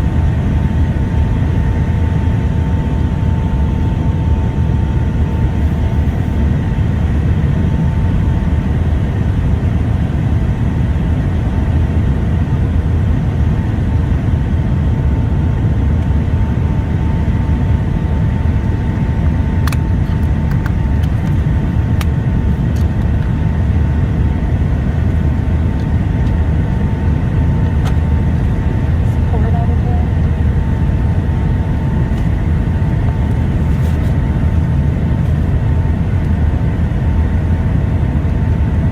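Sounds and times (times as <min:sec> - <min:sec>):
airliner cabin engine rumble: 0:00.0 - 0:38.9
steady whine: 0:00.0 - 0:38.9.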